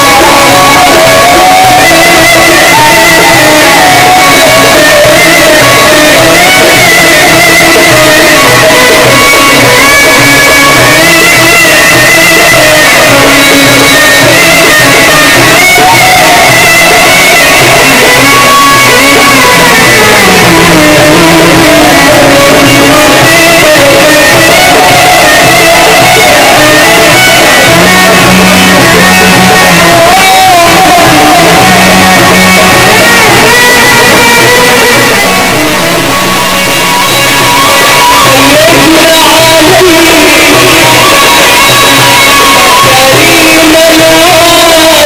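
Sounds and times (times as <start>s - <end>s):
frame drums beat: 0.0s - 41.4s
oud and violin melody: 0.0s - 45.0s.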